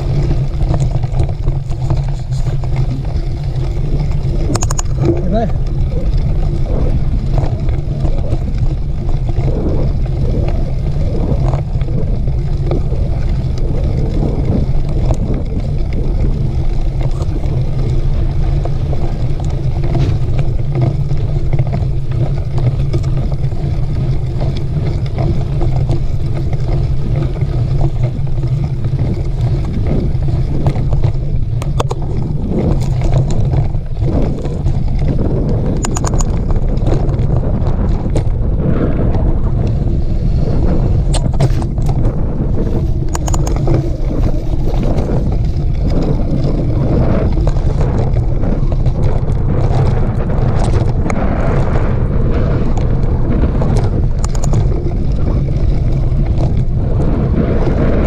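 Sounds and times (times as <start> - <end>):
bike rattles and knocks: 0.0 - 58.0
wind rumble on microphone: 0.0 - 58.0.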